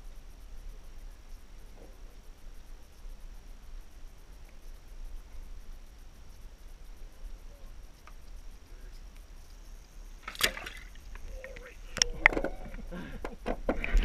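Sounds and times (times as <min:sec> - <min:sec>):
faint ticks: 0:00.0 - 0:14.0.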